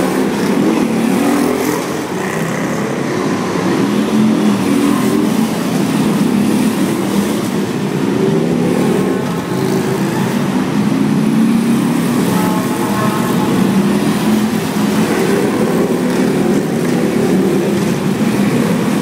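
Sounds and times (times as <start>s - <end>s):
police vehicles driving past: 0.0s - 19.0s.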